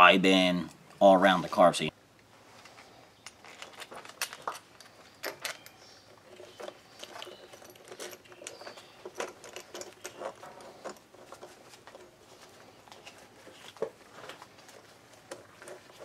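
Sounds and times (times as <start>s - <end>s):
small parts clicking and rattling: 2.6s - 16.0s.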